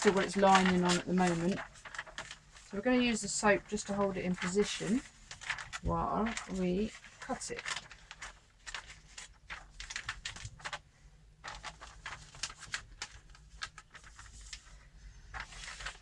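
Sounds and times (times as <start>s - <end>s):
plastic film crinkling: 0.0s - 10.8s, 11.4s - 16.0s.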